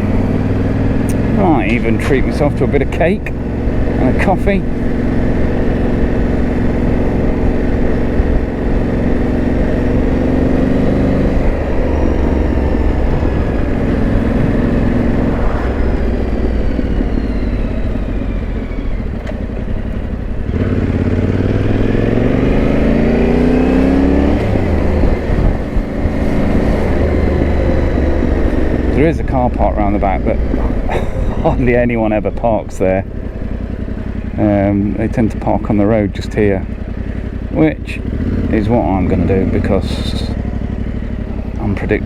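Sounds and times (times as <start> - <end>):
gear change: 0.0 - 42.0
motorcycle engine running: 0.0 - 42.0.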